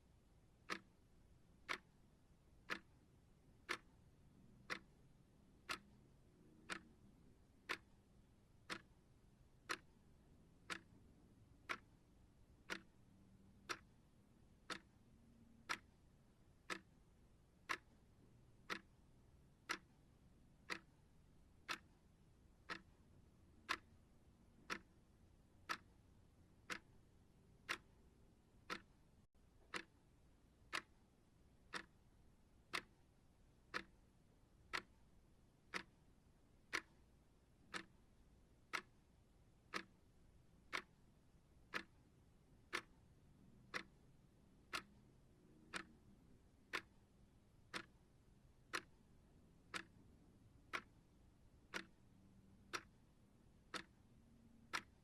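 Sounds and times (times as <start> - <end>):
timer ticking: 0.4 - 55.0.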